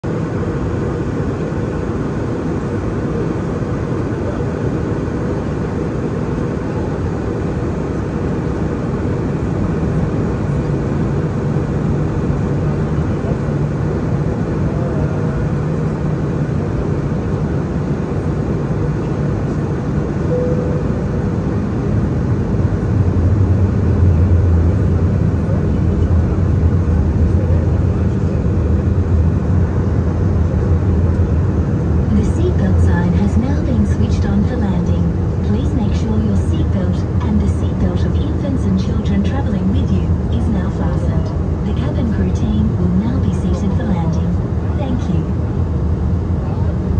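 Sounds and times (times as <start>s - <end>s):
airflow noise in cabin: 0.0s - 46.9s
airliner engine noise: 0.0s - 46.9s
low hum: 5.3s - 46.9s.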